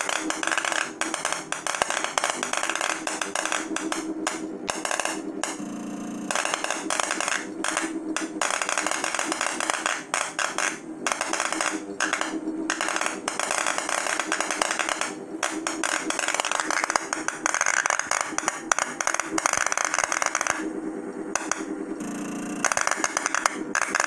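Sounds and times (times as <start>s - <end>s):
electrical arcing crackle: 0.0s - 5.6s, 6.2s - 24.0s
steady hum: 0.0s - 24.0s.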